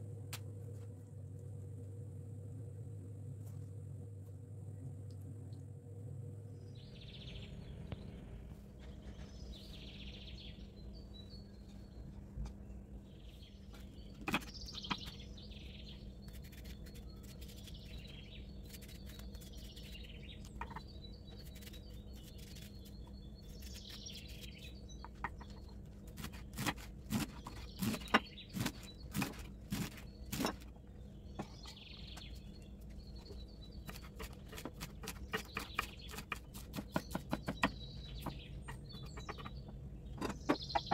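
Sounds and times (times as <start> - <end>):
steady low hum: 0.0 - 40.9
birds chirping: 6.6 - 40.9.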